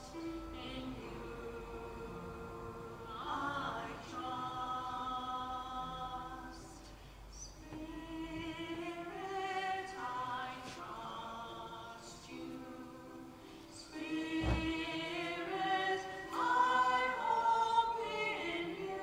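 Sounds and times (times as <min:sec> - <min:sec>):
choir singing a slow hymn: 0:00.0 - 0:19.0.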